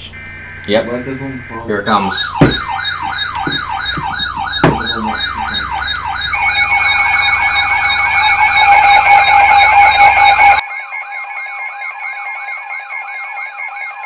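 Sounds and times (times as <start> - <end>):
steady electronic tone: 0.0 - 11.6
electronic siren sweeping downward: 0.0 - 14.0.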